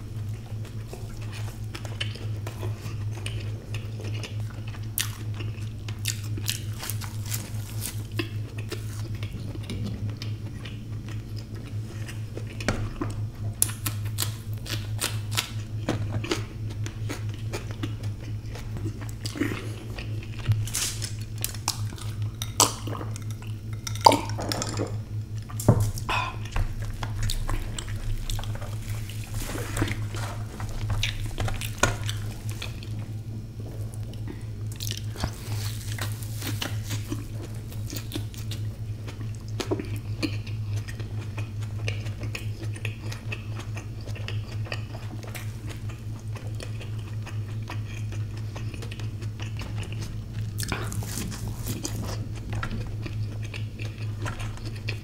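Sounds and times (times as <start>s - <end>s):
steady low hum: 0.0s - 55.0s
chewing: 0.1s - 55.0s.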